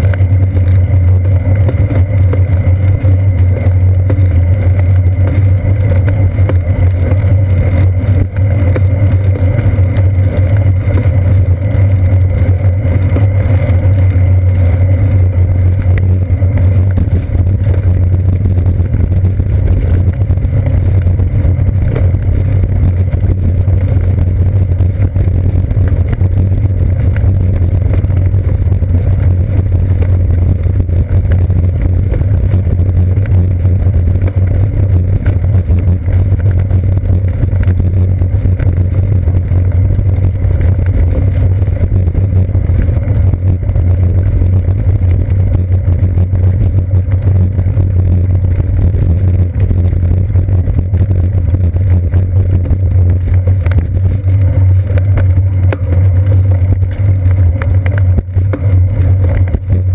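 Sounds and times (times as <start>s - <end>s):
wind and road rumble: 0.0s - 59.9s.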